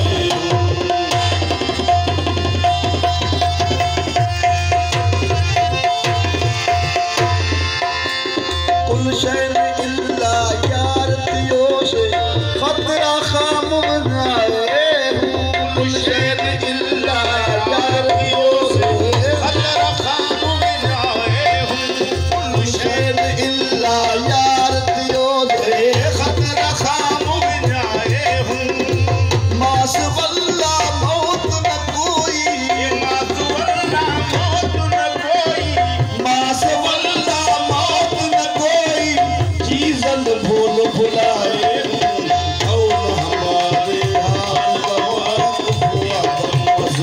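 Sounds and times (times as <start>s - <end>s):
tabla drums: 0.0s - 47.0s.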